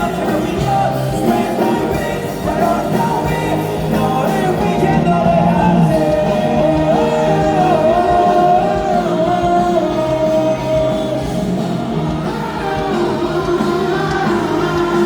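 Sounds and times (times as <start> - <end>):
pop-rock band playing: 0.0 - 15.0.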